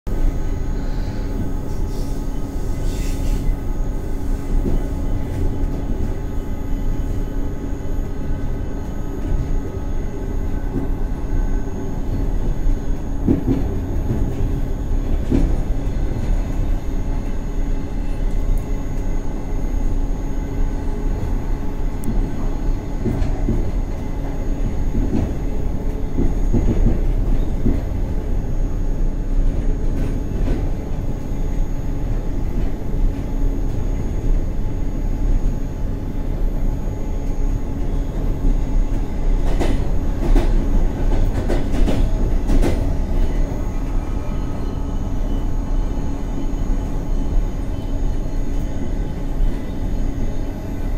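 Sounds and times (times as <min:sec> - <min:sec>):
train low rumble: 0:00.1 - 0:50.9.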